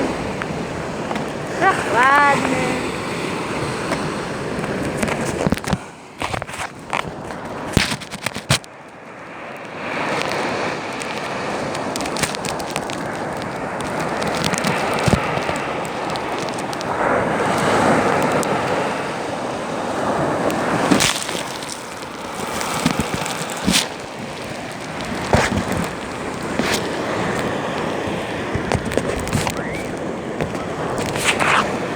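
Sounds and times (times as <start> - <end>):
sea waves washing onto shore: 0.0 - 31.9
sharp clicks and crackles: 4.6 - 18.8, 20.1 - 31.9.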